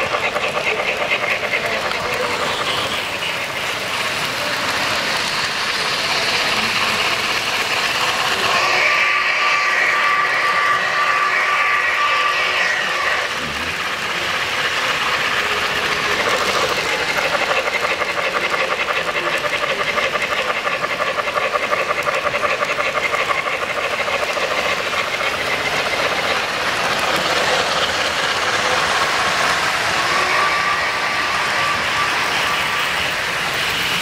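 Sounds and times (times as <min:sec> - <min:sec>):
model trains clattering on track: 0:00.0 - 0:34.0.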